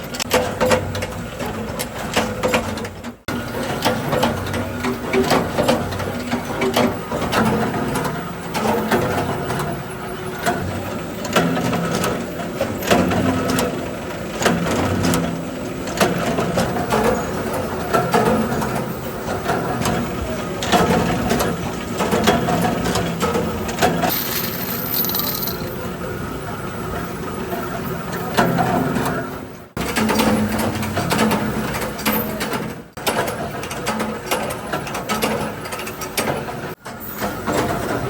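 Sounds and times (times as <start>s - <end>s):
workshop machinery humming: 0.0s - 38.0s.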